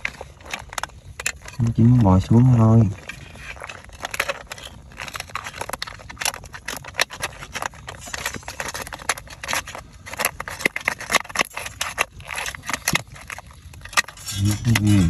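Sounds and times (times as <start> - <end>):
rod scraping against rock: 0.0 - 15.0.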